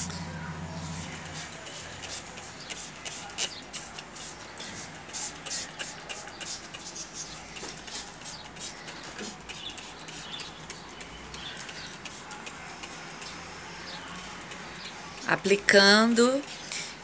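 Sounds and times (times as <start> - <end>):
spray bottle squirts: 1.3 - 15.0.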